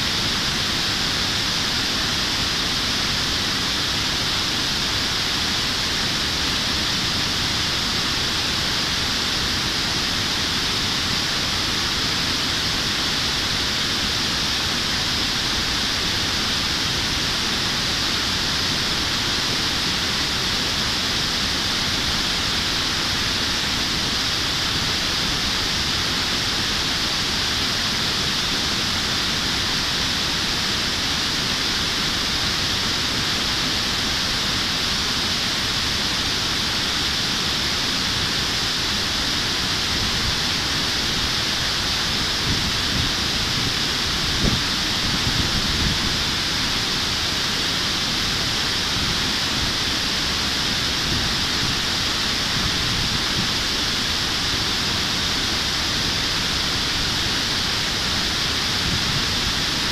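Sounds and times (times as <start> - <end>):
river water rushing over weir: 0.0 - 59.9.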